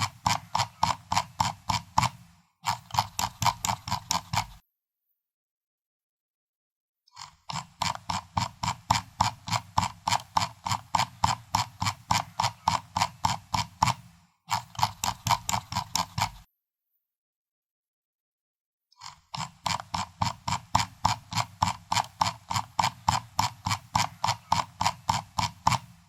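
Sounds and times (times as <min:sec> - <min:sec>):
mouse scroll wheel clicks: 0:00.0 - 0:04.6, 0:07.2 - 0:16.5, 0:19.0 - 0:26.0.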